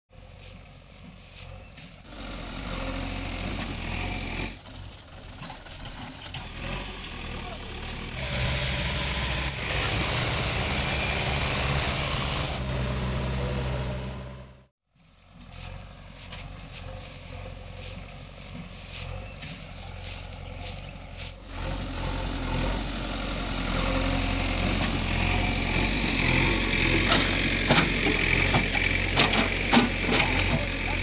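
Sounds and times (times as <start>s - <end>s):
backhoe loader diesel engine: 0.1s - 31.0s
tractor diesel engines running: 0.1s - 31.0s.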